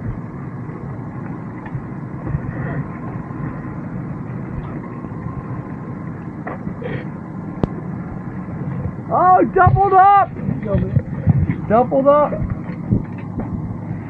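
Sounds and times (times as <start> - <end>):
water around boat: 0.0 - 14.0
wind rumble and hiss: 0.0 - 14.0.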